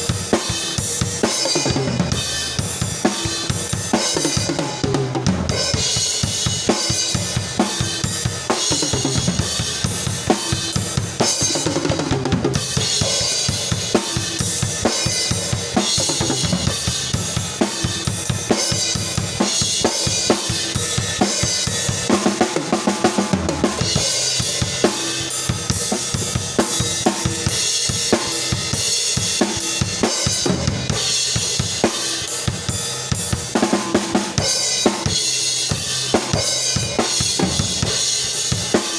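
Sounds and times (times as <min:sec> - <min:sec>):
drum kit groove: 0:00.0 - 0:38.9.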